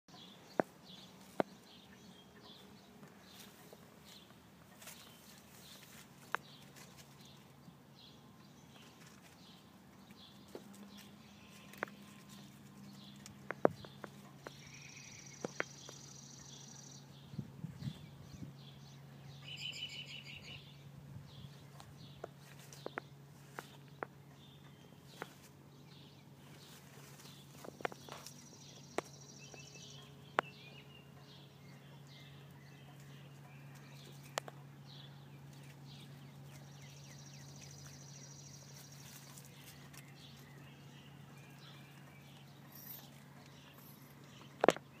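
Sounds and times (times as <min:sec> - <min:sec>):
songbirds chirping: 0:00.1 - 0:45.0
steady low hum: 0:00.1 - 0:45.0.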